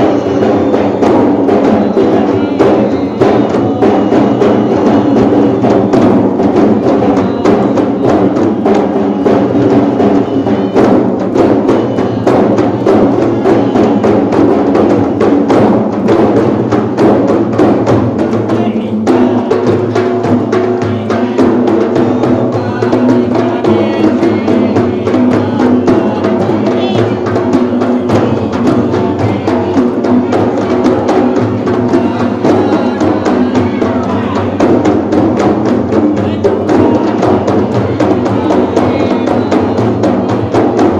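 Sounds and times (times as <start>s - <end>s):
frame drums playing fast rhythm: 0.0s - 40.9s.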